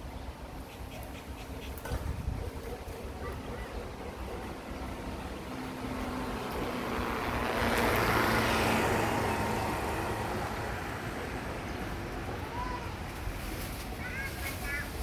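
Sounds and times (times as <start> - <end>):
vehicle passing by: 2.0 - 15.0.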